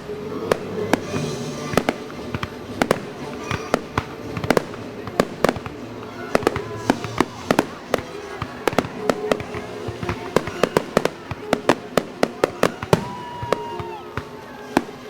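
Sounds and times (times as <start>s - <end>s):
fireworks bursting bangs: 0.0s - 15.0s
music playing: 0.0s - 15.0s.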